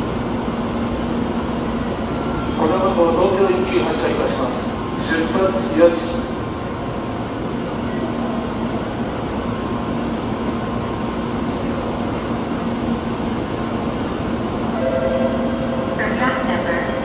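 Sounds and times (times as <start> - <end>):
train equipment humming: 0.0 - 17.0.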